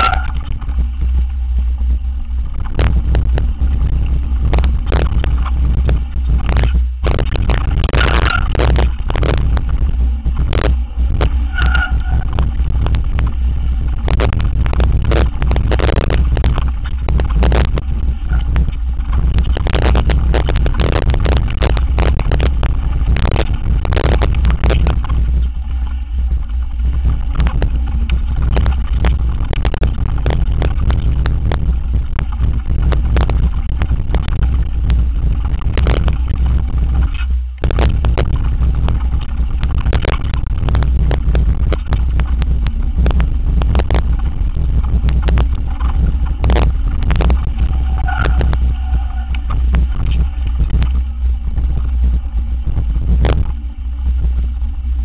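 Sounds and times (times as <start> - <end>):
bike rattling over rocks: 0.0 - 55.0
wind buffeting microphone: 0.0 - 55.0.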